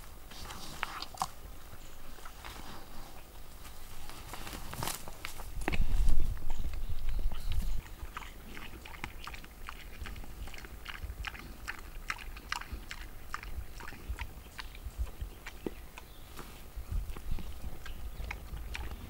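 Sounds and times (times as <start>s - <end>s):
boar chewing and crunching bone: 0.0s - 19.0s.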